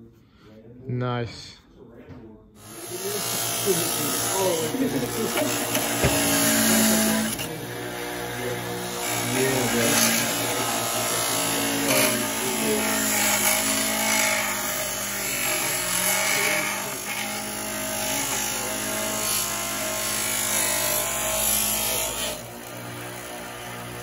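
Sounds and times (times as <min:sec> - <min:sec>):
bench grinder motor hum: 0:02.6 - 0:24.0
metal grinding on grinder wheel: 0:02.6 - 0:24.0.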